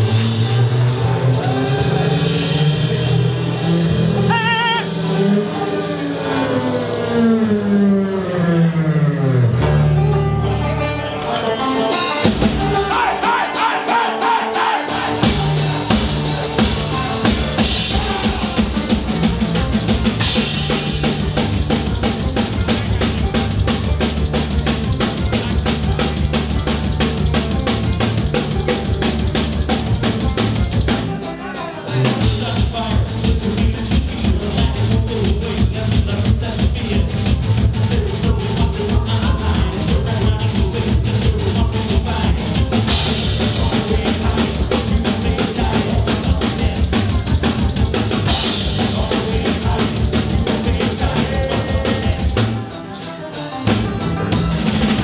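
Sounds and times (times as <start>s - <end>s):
drum kit fast beat: 0.0s - 7.0s, 11.8s - 55.0s
live band playing: 0.0s - 8.9s, 9.5s - 55.0s.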